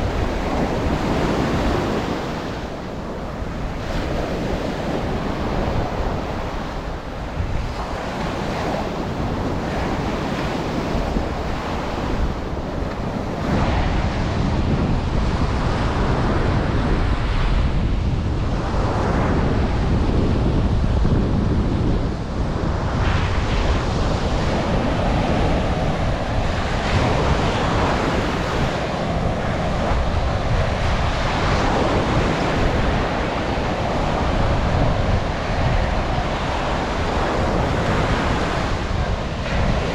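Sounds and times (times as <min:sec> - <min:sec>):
ocean surf washing on shore: 0:00.0 - 0:39.9
wind buffeting microphone: 0:00.0 - 0:39.9.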